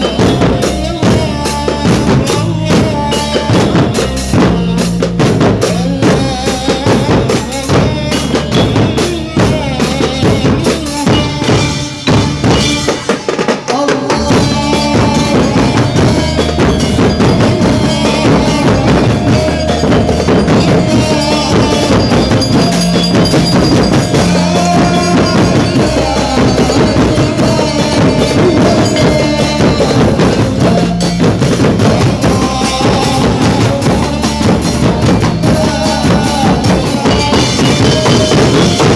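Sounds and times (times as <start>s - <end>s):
loud music with drum beat: 0.0s - 38.9s.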